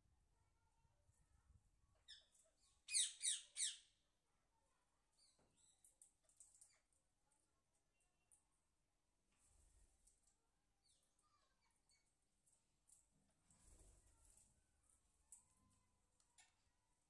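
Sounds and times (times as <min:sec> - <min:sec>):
parakeets chirping softly: 0:01.8 - 0:08.6, 0:09.4 - 0:17.0.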